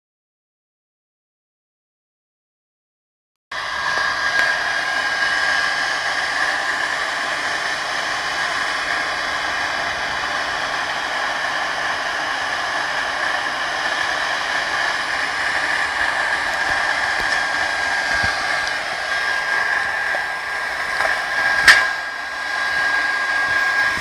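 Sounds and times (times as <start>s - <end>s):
electric air blower whine: 3.5s - 24.0s.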